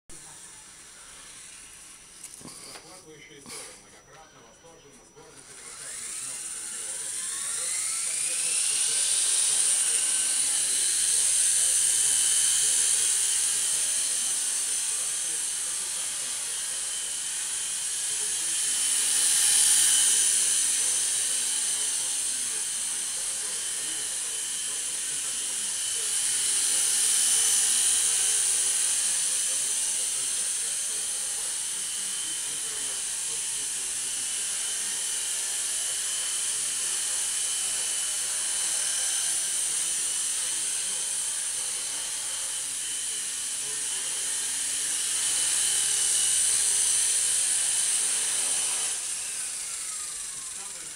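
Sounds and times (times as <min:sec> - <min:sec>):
rc helicopter rotors whining: 0:00.1 - 0:50.9.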